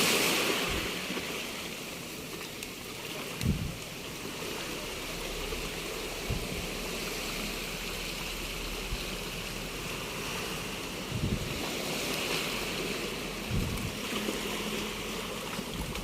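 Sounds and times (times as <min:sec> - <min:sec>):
surf washing onto beach: 0:00.0 - 0:16.0.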